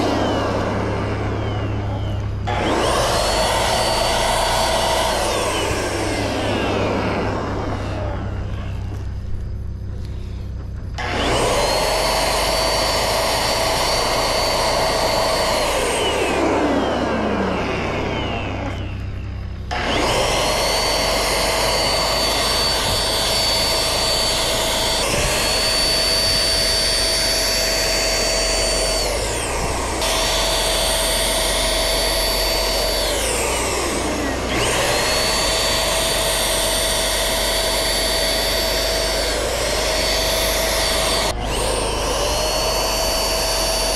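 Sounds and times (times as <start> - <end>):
electric paint sprayer whining: 0.0 - 43.9.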